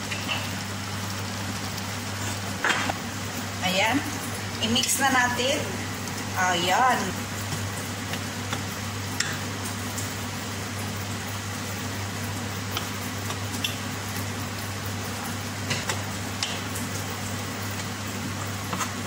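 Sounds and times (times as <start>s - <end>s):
steady hum and hiss: 0.0s - 19.0s.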